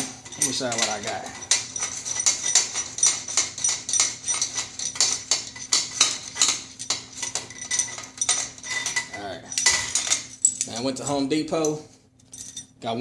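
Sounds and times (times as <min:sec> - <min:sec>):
metal hardware clinking: 0:00.0 - 0:12.8.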